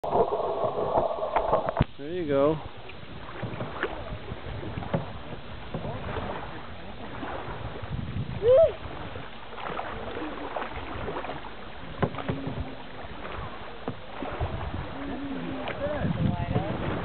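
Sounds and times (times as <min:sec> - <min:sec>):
paddle splashing in water: 0:00.0 - 0:17.0
paddle knocking against boat: 0:00.6 - 0:17.0.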